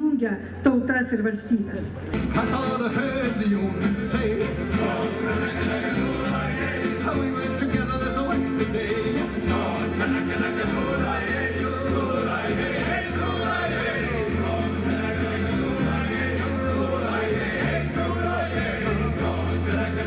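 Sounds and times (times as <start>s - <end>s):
music with singing and beat: 2.2s - 20.0s.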